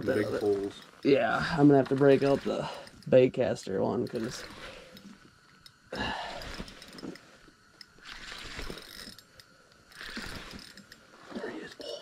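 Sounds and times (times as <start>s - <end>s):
fishing reel clicking and whirring: 0.0s - 12.0s.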